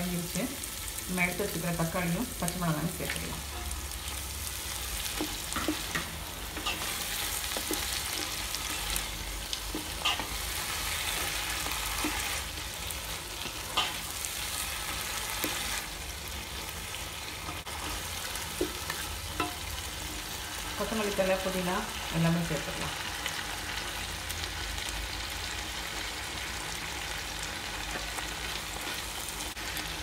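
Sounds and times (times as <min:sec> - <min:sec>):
masala sizzling in hot oil: 0:00.0 - 0:30.0.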